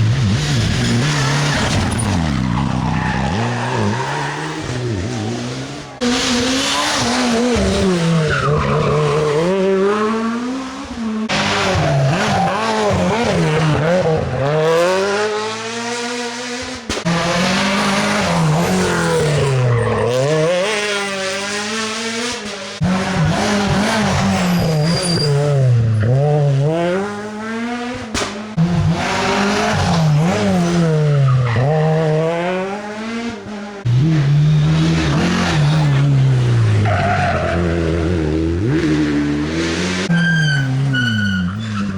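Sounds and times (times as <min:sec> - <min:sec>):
rally car engine revving hard: 0:00.0 - 0:41.9.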